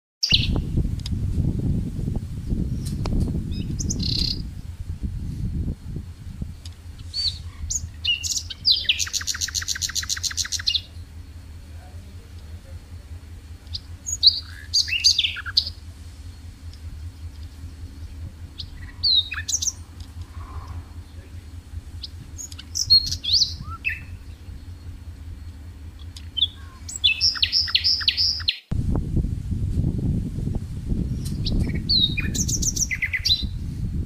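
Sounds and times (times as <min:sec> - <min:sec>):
songbirds chirping: 0:00.2 - 0:01.1, 0:02.2 - 0:28.7, 0:30.9 - 0:34.0
low rumble: 0:00.3 - 0:34.0.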